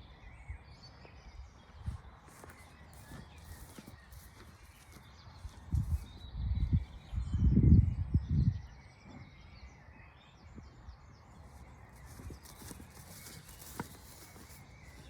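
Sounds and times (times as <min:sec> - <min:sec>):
faint outdoor background: 0:00.0 - 0:15.0
wind buffeting microphone: 0:00.3 - 0:15.0.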